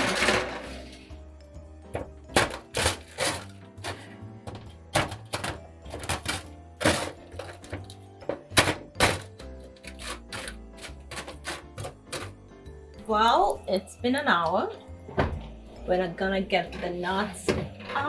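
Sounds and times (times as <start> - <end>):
background music with held tones: 0.0 - 18.0.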